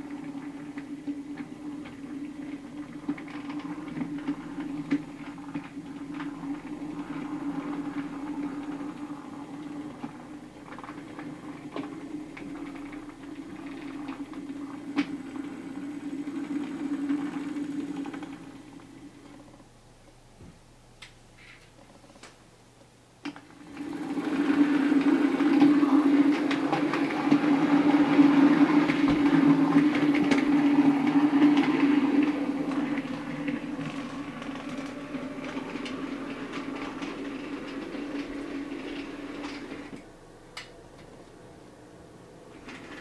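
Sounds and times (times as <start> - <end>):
model train motor humming: 0.0 - 19.6, 23.6 - 40.0
wheel and rail noise: 0.0 - 19.8, 23.2 - 43.0.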